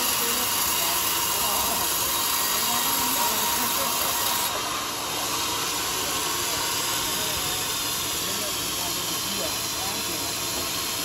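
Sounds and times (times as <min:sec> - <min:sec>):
band saw cutting through log: 0:00.0 - 0:11.0.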